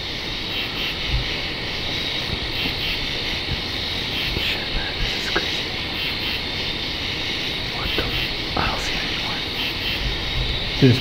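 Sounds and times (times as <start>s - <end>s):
insects chirping: 0.0s - 11.0s
steady background hiss: 0.0s - 11.0s.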